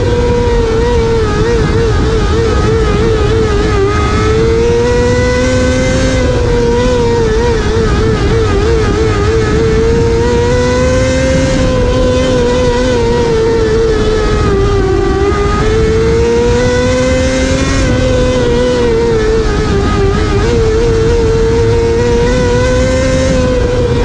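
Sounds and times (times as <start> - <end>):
race car engine at speed: 0.0 - 24.0
rough rumble: 0.0 - 24.0.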